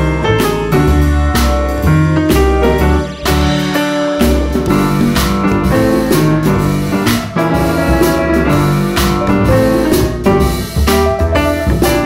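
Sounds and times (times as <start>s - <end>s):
drum kit: 0.0s - 12.0s
piano chords: 0.0s - 12.0s.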